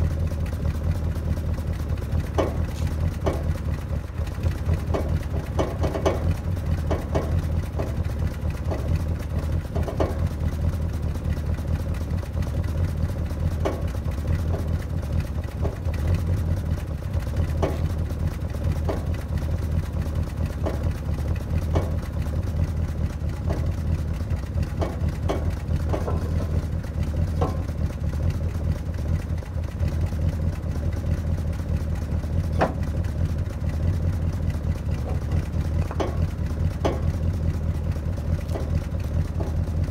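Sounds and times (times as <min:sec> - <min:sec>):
car engine idling: 0:00.0 - 0:39.9
light engine ticks: 0:00.0 - 0:39.9.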